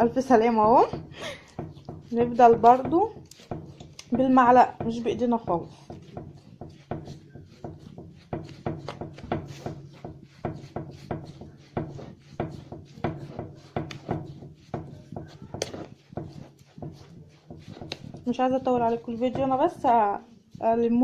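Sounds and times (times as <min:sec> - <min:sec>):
spoon mixing thick batter: 0:00.0 - 0:21.0.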